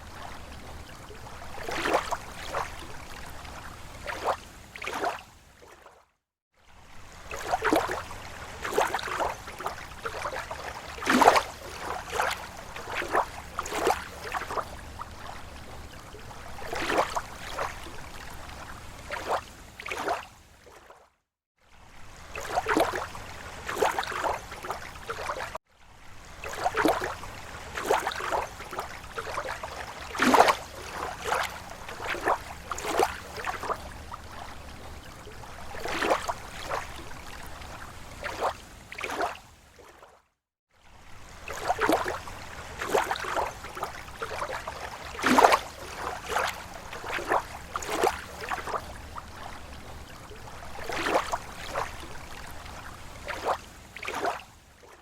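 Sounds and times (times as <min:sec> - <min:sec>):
low wash of water: 0:00.0 - 0:55.0
small waves lapping shore: 0:00.0 - 0:55.0.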